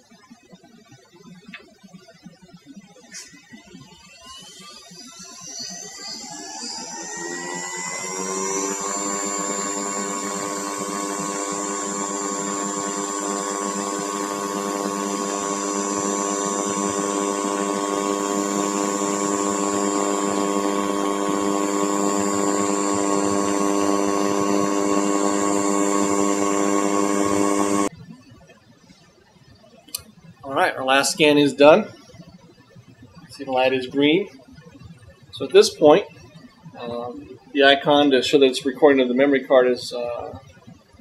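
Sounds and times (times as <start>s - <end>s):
laser scanner motor whine: 0.0s - 41.0s.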